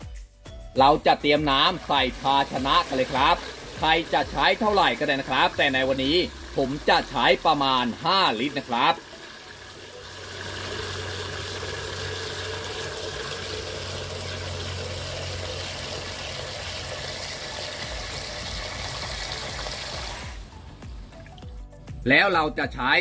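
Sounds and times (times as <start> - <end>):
water pouring into plastic bucket: 0.9 - 21.6.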